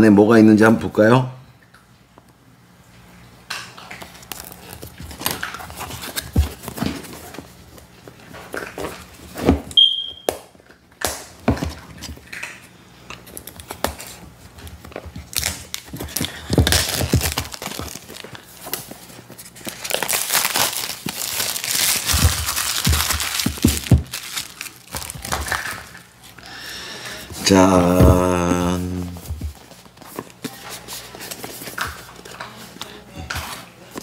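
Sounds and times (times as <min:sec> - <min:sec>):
plastic rustling: 0:03.7 - 0:09.8, 0:11.5 - 0:34.0.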